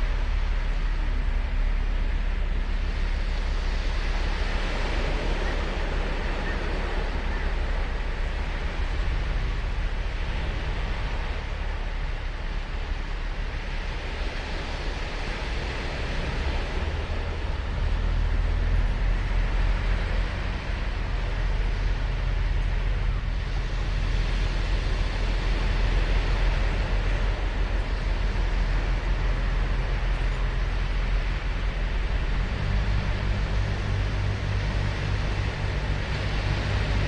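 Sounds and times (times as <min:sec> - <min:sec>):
ocean surf breaking: 0:00.0 - 0:37.0.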